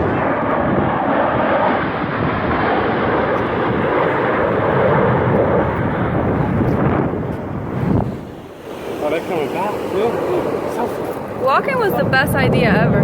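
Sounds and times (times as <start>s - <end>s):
airplane engine noise: 0.0s - 13.0s.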